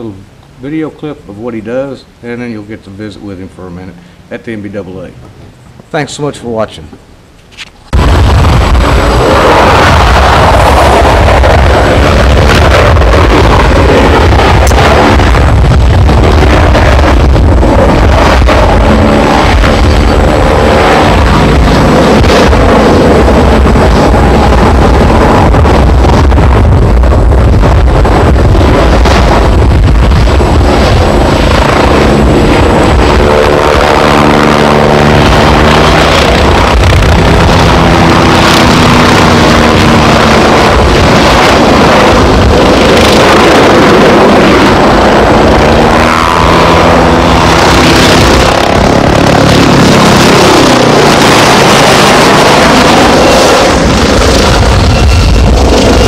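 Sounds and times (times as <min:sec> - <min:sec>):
helicopter rotor and turbine: 0:00.0 - 0:56.0.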